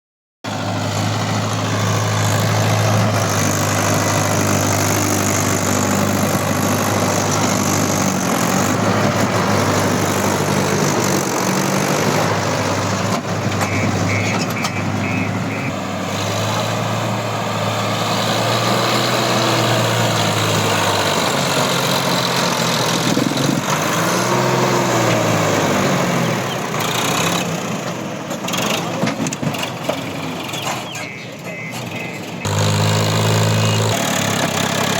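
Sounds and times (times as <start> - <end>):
tractor diesel engine running: 0.5 - 34.9.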